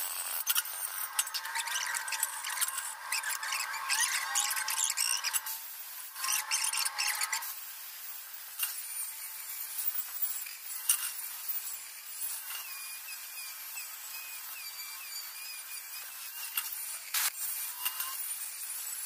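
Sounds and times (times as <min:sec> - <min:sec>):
angle grinder high whine: 0:00.0 - 0:07.6, 0:08.7 - 0:19.0.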